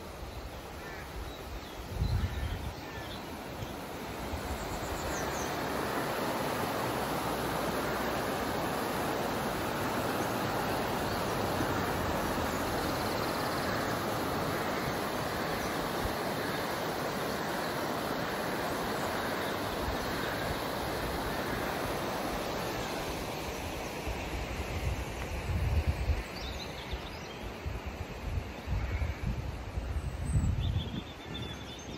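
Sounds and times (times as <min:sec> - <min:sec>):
river water rushing over stones: 0:00.0 - 0:29.8.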